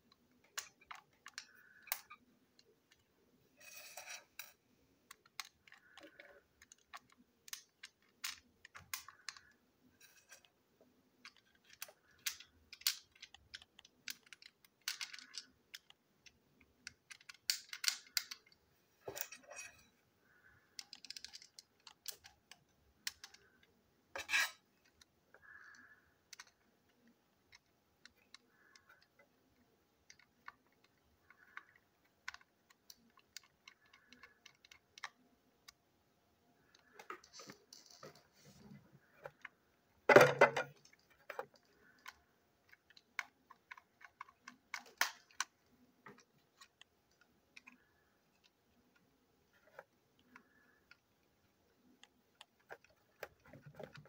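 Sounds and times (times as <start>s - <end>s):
plastic toy parts clicking: 0.0s - 35.9s, 36.6s - 54.0s.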